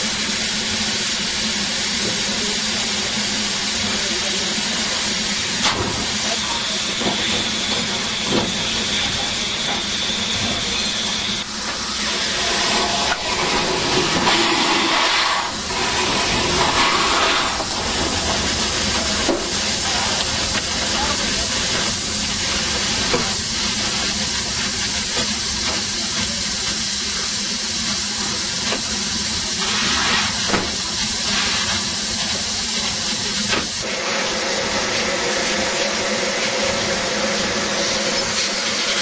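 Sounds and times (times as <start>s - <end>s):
steam blowing from drain cocks: 0.0s - 39.0s
steam locomotive hissing: 0.0s - 39.0s.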